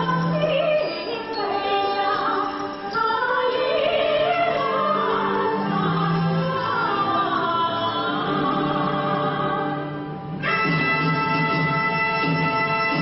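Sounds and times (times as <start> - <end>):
woman singing: 0.0 - 12.2
traditional chinese instruments: 0.0 - 13.0.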